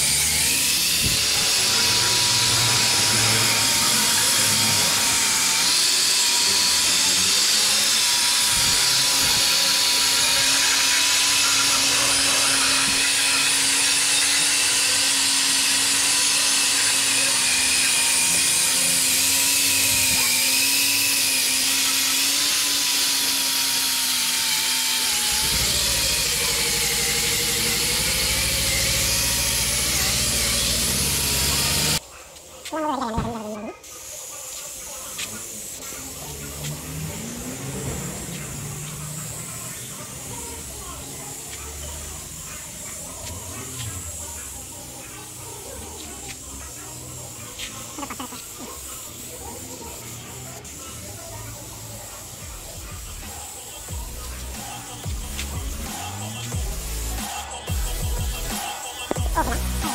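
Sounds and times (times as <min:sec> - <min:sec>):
angle grinder grinding steel: 0:00.0 - 0:32.5, 0:33.7 - 0:59.9.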